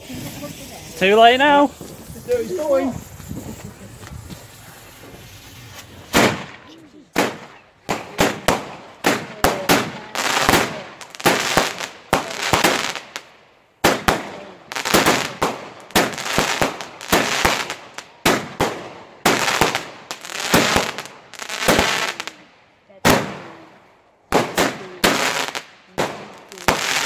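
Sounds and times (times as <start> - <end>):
fireworks banging: 0.0 - 27.0.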